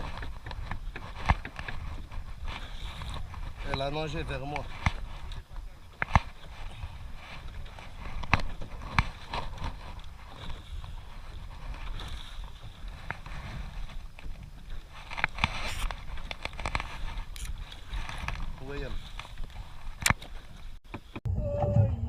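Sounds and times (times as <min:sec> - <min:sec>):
wind and sea rumble: 0:00.0 - 0:22.0.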